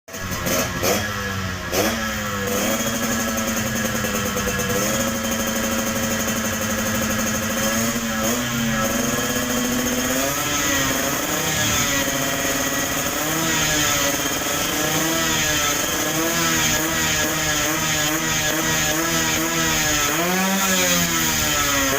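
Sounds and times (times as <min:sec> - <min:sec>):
two-stroke motorcycle engine revving: 0:00.1 - 0:21.9.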